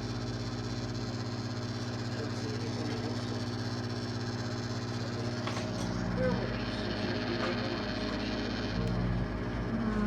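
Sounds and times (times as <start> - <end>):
fan running: 0.0 - 10.0
microwave oven humming: 0.0 - 10.0.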